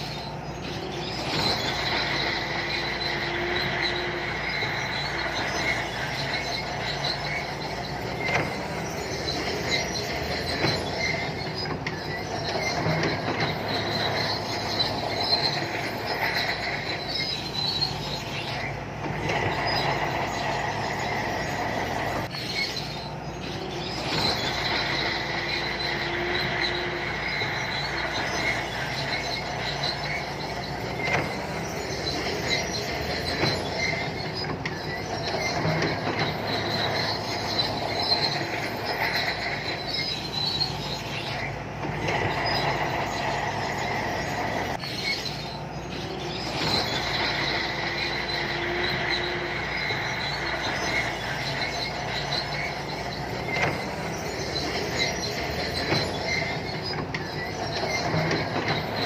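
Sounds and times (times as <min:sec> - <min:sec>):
bulldozer diesel engine under load: 0:00.0 - 0:59.0
clanks: 0:00.0 - 0:59.0
steel tracks squealing: 0:00.0 - 0:59.0.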